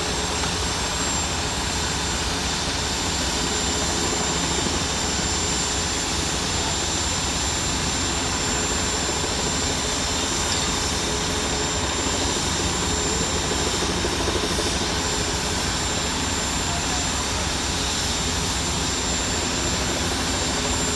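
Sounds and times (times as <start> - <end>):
fire engine pump roaring: 0.0 - 20.9.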